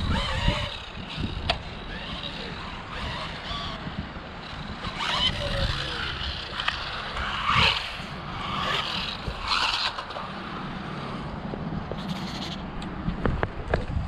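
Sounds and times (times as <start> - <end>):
tyres scraping on wet ground: 0.0 - 11.3
electric motor whining: 0.0 - 12.8.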